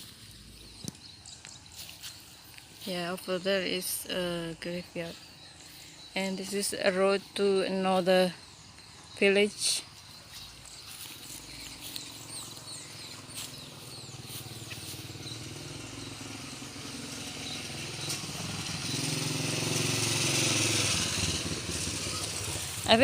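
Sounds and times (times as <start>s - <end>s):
motorcycle engine approaching: 0.0s - 23.0s.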